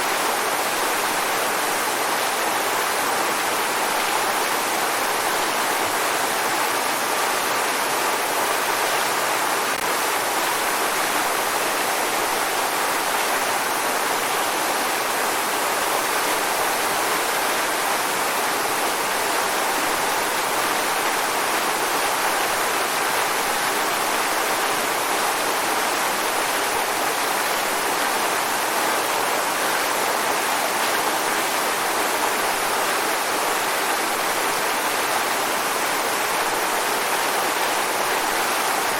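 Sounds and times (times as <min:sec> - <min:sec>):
waterfall rushing and splashing: 0:00.0 - 0:38.9.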